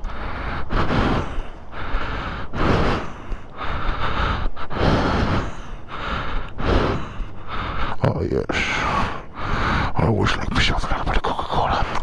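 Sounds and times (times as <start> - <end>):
person breathing close: 0.0 - 10.0.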